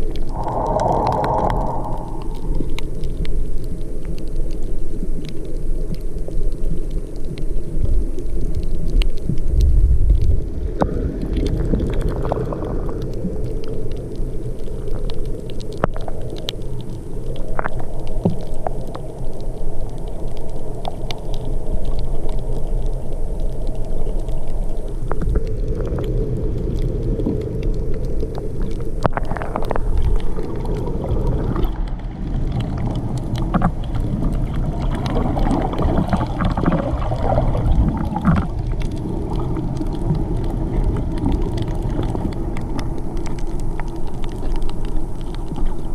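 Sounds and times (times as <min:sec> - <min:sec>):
small underwater clicks: 0:00.0 - 0:45.9
underwater rumble of moving water: 0:00.0 - 0:45.9.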